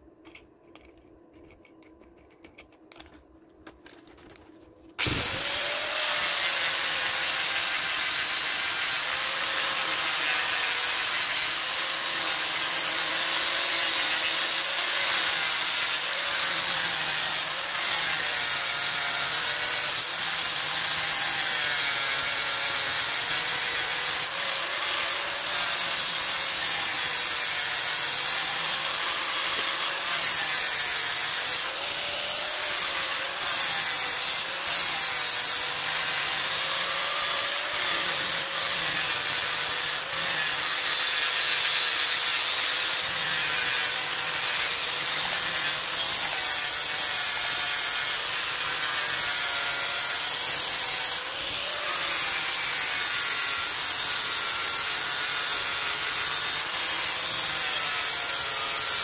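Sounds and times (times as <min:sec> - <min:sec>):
angle grinder grinding metal: 0:05.0 - 0:59.0.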